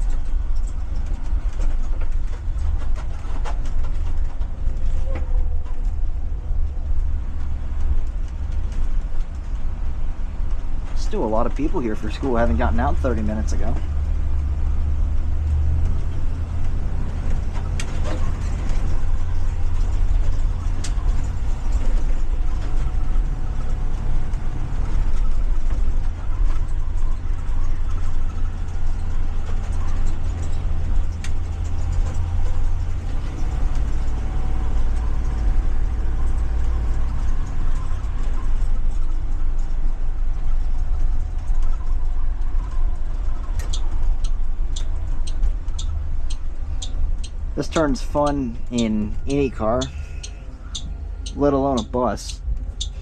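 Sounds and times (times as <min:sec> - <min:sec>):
bus engine droning: 0:00.0 - 0:53.0.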